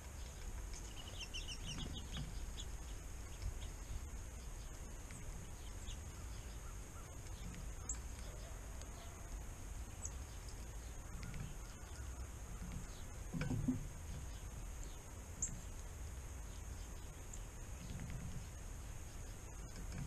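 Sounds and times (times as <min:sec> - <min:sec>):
small bird chirping: 0:00.0 - 0:20.0.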